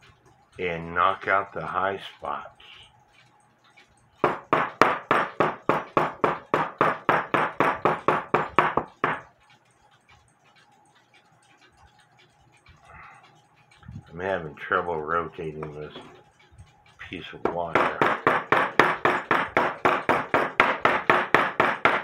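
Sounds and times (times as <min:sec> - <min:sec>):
hammer tapping on wire: 0:03.1 - 0:22.0.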